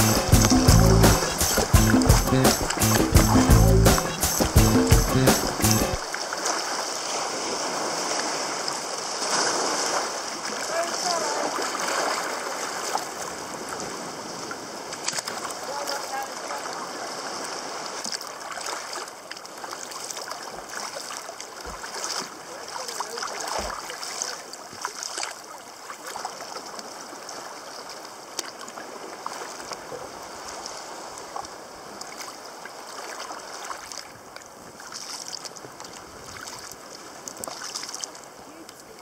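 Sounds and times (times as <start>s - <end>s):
water splashing from paddling: 0.0s - 39.0s.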